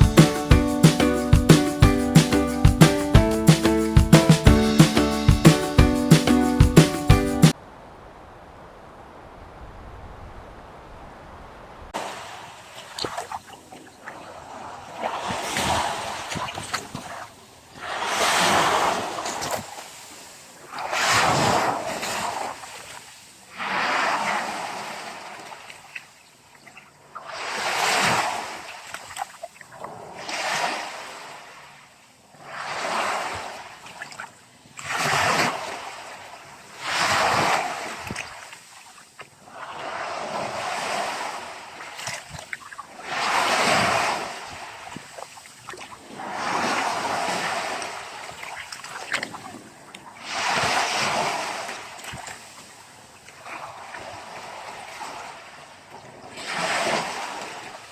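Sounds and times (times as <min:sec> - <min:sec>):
ocean waves breaking on shore: 0:00.0 - 0:25.9, 0:27.3 - 0:29.0, 0:30.0 - 0:31.8, 0:32.4 - 0:34.1, 0:34.8 - 0:57.9.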